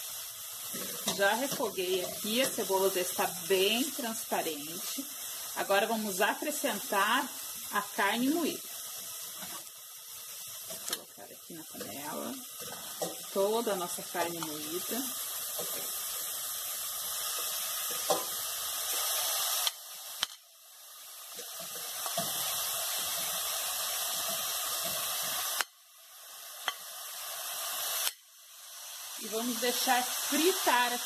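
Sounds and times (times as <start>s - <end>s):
meat sizzling in hot oil: 0.0s - 31.0s.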